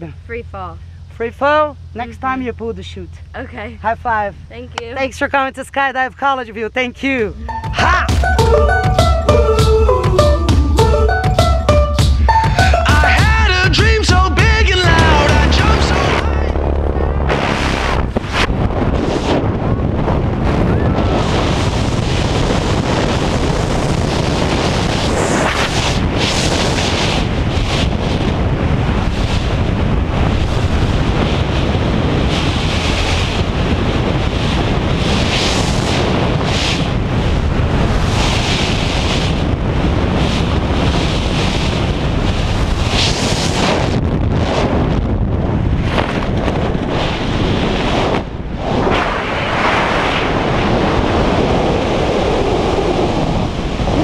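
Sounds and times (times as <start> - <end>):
freefall wind roaring: 7.0 - 54.0.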